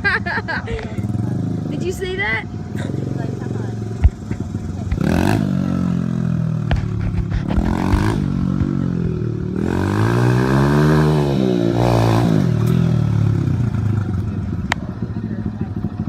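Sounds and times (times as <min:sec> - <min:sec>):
dirt bike engine revving: 0:00.0 - 0:14.6.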